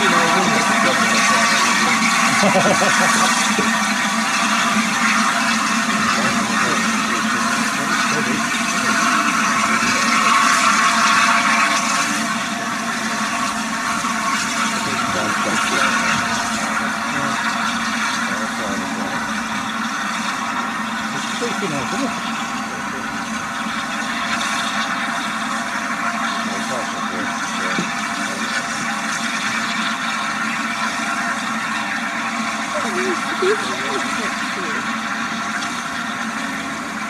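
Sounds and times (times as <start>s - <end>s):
steam hissing from locomotive: 0.0s - 37.0s.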